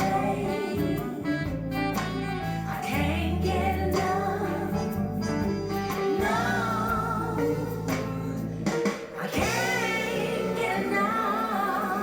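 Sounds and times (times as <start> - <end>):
music with singing over loudspeakers: 0.0 - 12.0.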